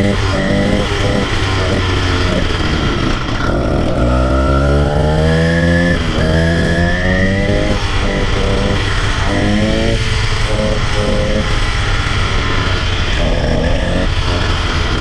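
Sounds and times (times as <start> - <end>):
small bicycle engine revving: 0.0 - 15.0.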